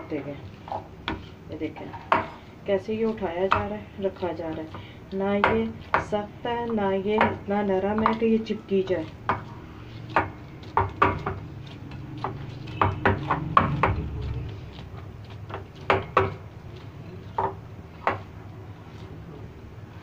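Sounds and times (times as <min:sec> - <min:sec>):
hands kneading bread dough: 0:00.0 - 0:20.0
low steady hum: 0:00.0 - 0:20.0.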